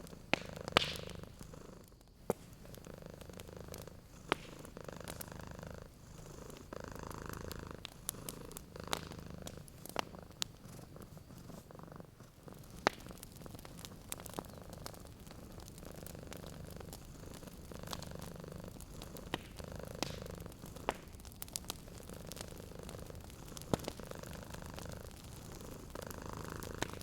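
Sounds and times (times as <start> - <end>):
cat purring: 0.0 - 27.0
wood fire crackling and popping: 0.0 - 27.0.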